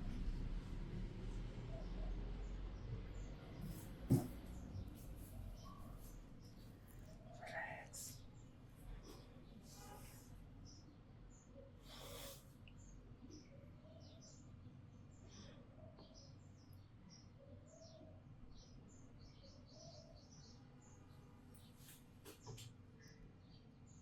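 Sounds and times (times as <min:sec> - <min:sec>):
small birds chirping: 0:01.8 - 0:24.0.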